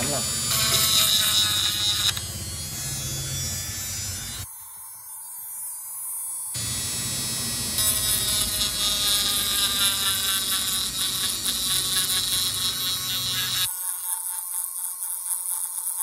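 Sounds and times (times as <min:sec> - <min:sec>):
rotary sanding tool on metal: 0:00.0 - 0:05.8, 0:07.8 - 0:16.0.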